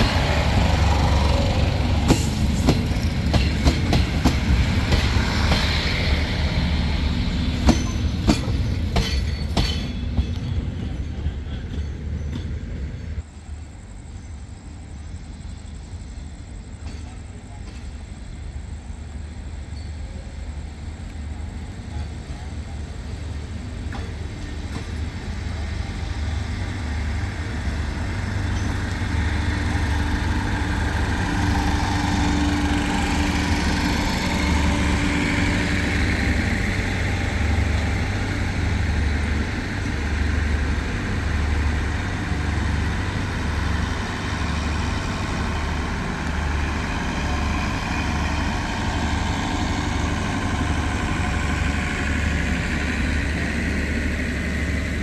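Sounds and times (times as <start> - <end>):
diesel locomotive engine throbbing: 0.0 - 55.0
train coaches rumbling past: 0.0 - 55.0.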